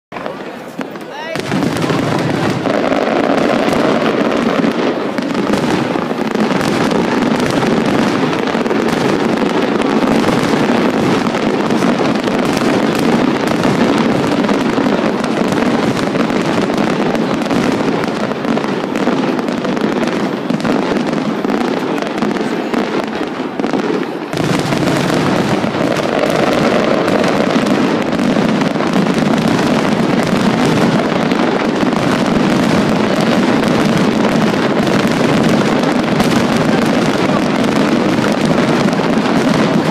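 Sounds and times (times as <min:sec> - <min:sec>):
fireworks bursting and crackling: 0:00.1 - 0:39.9.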